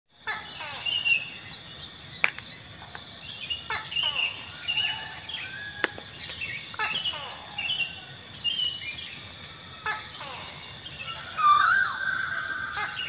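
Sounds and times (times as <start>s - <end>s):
insects droning: 0.1s - 13.0s
birds calling with falling notes: 0.2s - 13.0s.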